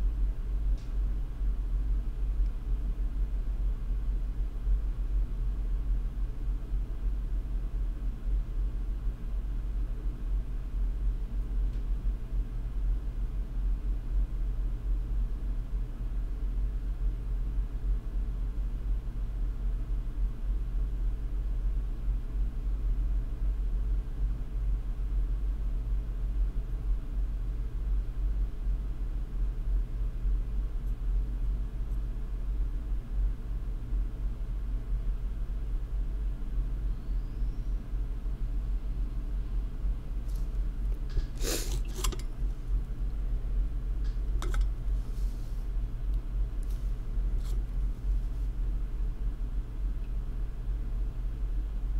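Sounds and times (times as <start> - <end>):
low-pitched hum and rumble: 0.0 - 51.9.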